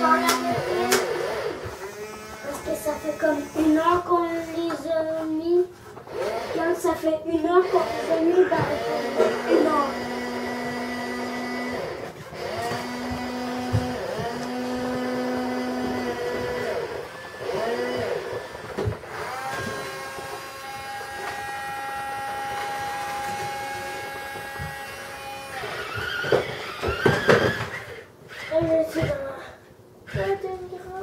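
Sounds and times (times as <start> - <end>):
small electric motors whining: 0.0 - 4.6, 6.0 - 6.9, 7.5 - 29.2.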